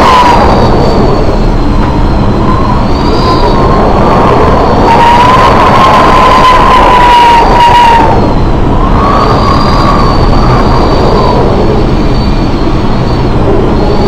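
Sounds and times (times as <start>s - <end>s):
faint wavering whistle: 0.0s - 14.0s
storm wind and sea roar: 0.0s - 14.0s.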